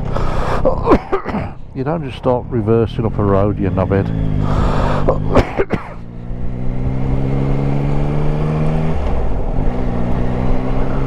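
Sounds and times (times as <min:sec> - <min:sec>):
motorcycle engine running: 0:01.6 - 0:11.0.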